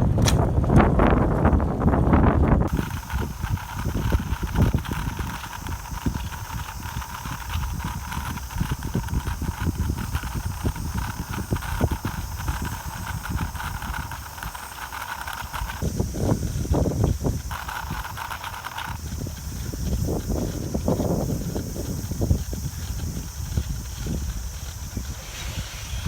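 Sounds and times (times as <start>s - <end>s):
wind buffeting microphone: 0.0s - 26.0s
steady high hum and hiss: 2.5s - 26.0s.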